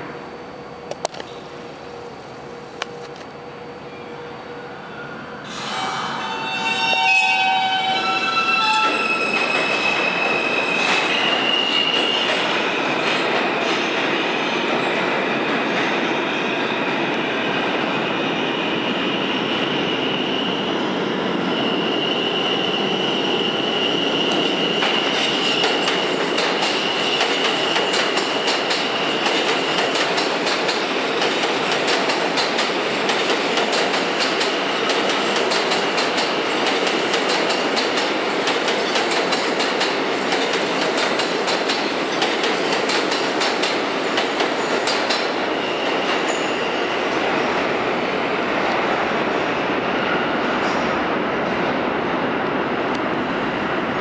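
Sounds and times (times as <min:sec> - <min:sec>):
subway train rumble: 0:00.0 - 0:54.0.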